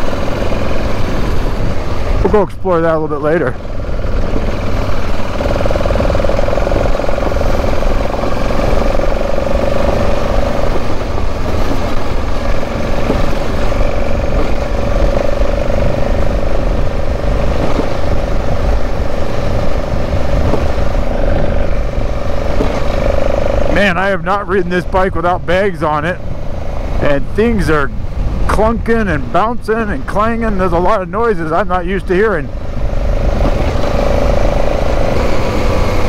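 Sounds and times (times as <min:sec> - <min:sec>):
low rumble: 0:00.0 - 0:36.0
motorcycle engine running: 0:00.0 - 0:36.0
wind noise: 0:00.0 - 0:36.0.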